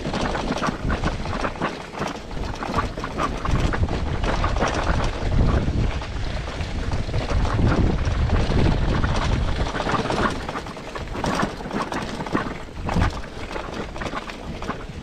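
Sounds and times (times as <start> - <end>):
clicks and rattles: 0.0 - 15.0
wind buffeting microphone: 0.0 - 15.0.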